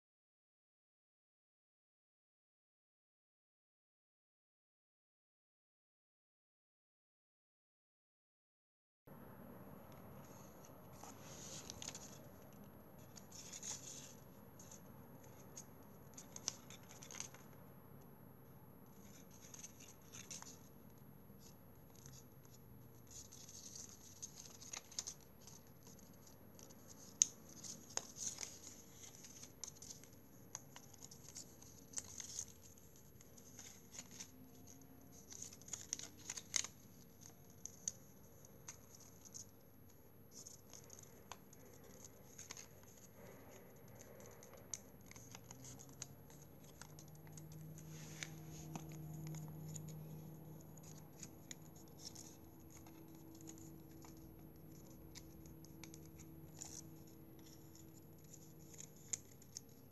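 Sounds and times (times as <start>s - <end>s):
paper strip rustling and crinkling: 10.2s - 17.6s, 18.9s - 59.9s.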